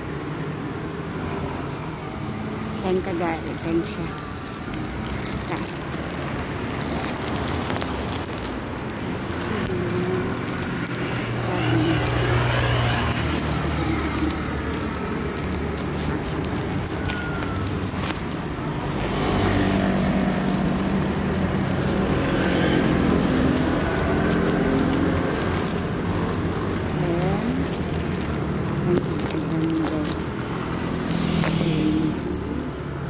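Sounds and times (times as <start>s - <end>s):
cars and scooters passing: 0.0s - 33.0s.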